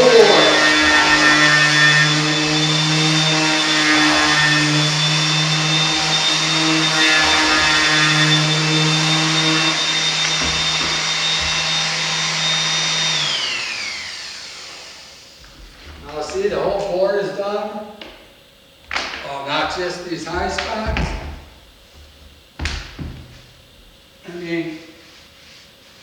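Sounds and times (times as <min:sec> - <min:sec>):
electric sander whining: 0:00.0 - 0:18.3, 0:19.0 - 0:21.7.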